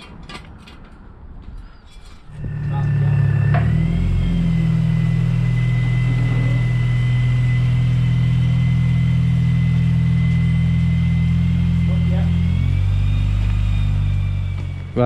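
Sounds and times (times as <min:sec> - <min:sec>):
high whine: 0:02.0 - 0:15.0
car engine idling: 0:02.2 - 0:15.0.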